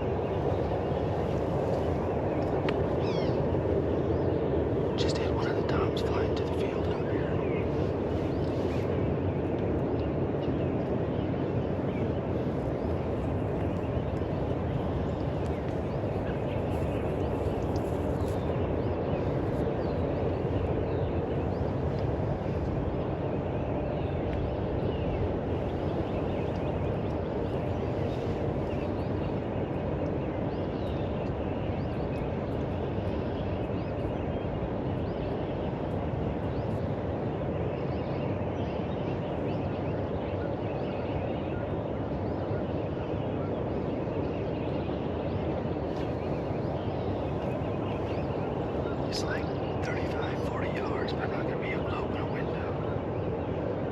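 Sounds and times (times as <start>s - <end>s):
faint songbird chirps: 0.0s - 53.9s
low background rumble: 0.0s - 53.9s.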